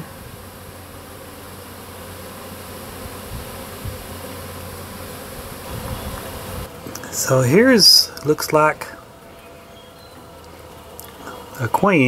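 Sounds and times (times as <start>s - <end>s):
bee swarm humming: 0.0s - 12.0s.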